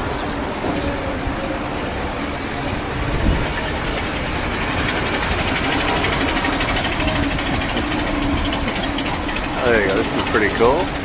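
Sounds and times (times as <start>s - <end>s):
old car engine chugging: 0.0s - 11.0s.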